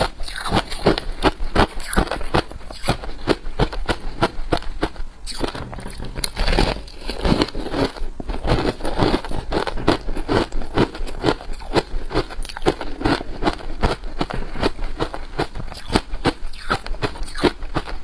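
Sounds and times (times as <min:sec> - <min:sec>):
frost being chewed: 0:00.0 - 0:18.0.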